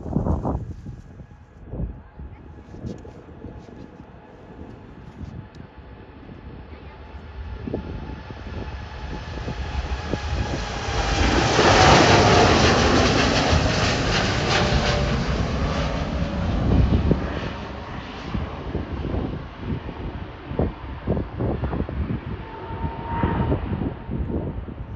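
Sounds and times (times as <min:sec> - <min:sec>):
jet engines passing: 0:02.6 - 0:24.9.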